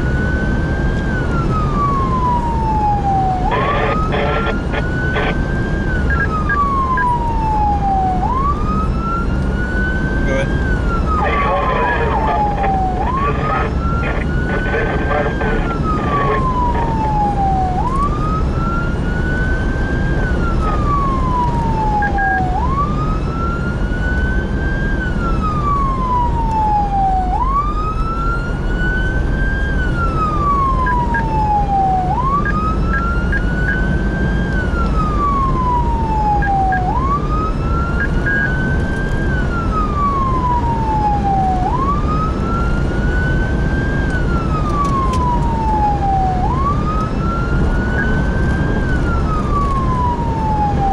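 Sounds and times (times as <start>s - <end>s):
emergency siren wailing: 0.0s - 50.9s
road and engine rumble: 0.0s - 50.9s.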